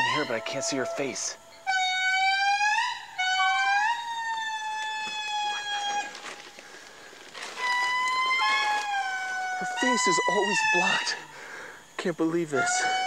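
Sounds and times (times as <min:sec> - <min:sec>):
indri wailing calls: 0:00.0 - 0:13.0.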